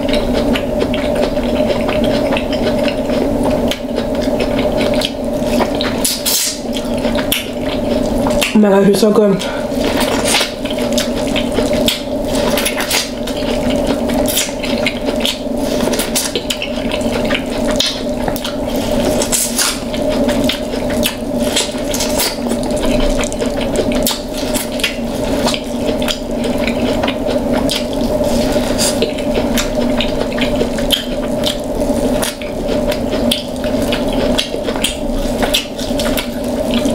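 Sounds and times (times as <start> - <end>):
steady low hum: 0.0 - 36.9
wet chewing and sucking: 0.0 - 36.9.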